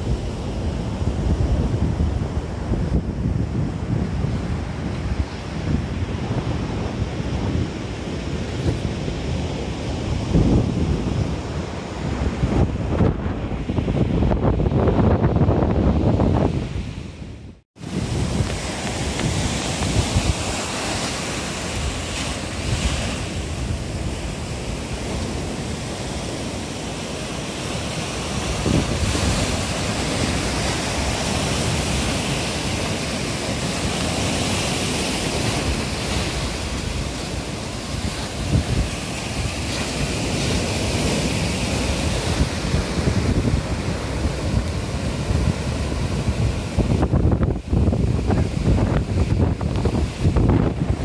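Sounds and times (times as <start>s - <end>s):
waves breaking on shore: 0.0s - 51.0s
wind buffeting microphone: 0.0s - 51.0s.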